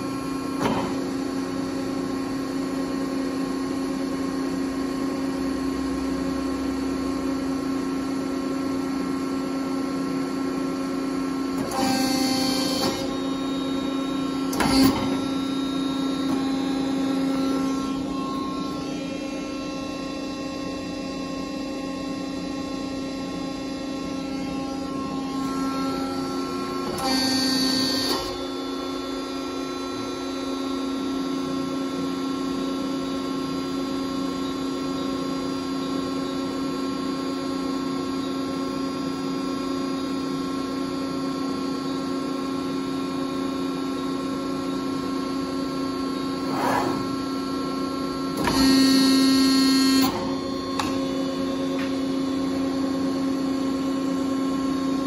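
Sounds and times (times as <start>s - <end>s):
hydraulic power unit humming: 0.0s - 55.0s.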